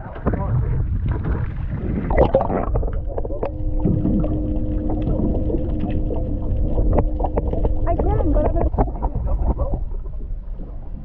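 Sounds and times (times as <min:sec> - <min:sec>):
muffled underwater water noise: 0:00.0 - 0:11.0
steady hum: 0:02.0 - 0:11.0.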